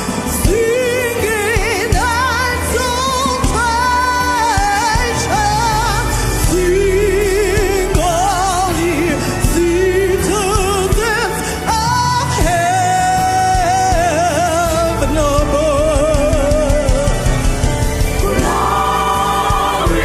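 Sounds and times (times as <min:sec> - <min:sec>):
person singing with vibrato: 0:00.0 - 0:17.5, 0:18.1 - 0:20.0
band playing bass and chords: 0:00.0 - 0:20.0.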